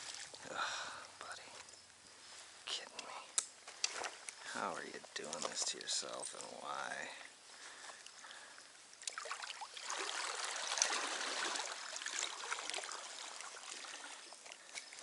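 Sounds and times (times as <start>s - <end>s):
creek water trickling and splashing: 0.0s - 3.0s, 3.6s - 15.0s.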